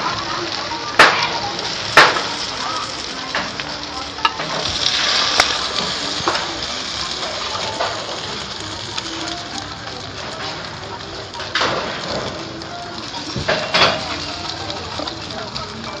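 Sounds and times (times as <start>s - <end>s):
batter sizzling in a pan: 0.0s - 16.0s.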